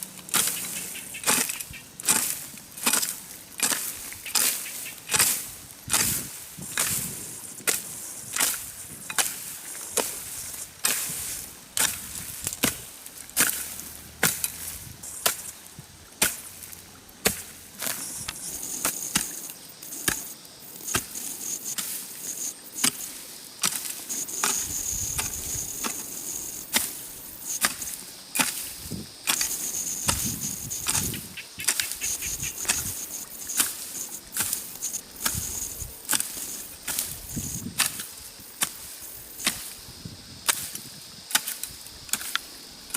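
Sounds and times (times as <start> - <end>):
hoe blade striking the ground: 0.3 - 10.2, 10.8 - 11.2, 11.8 - 15.6, 16.2 - 16.6, 17.2 - 22.0, 22.8 - 27.0, 27.6 - 39.8, 40.4 - 42.4.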